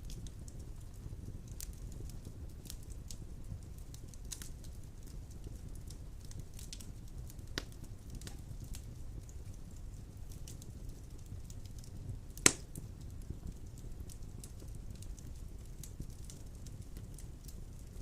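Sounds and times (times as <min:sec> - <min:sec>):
fire crackles and pops: 0:00.0 - 0:18.0
logs burning with low rumble: 0:00.0 - 0:18.0.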